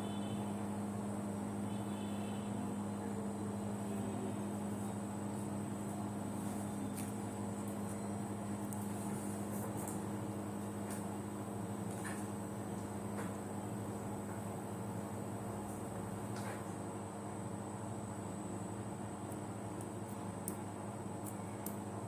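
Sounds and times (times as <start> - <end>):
washing machine motor humming: 0.0 - 22.0.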